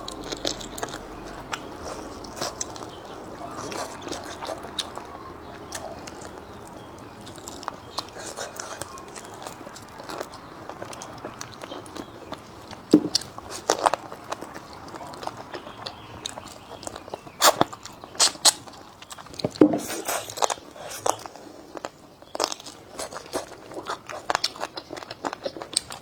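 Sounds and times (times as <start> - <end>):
person crunching and chewing: 0.0 - 26.0.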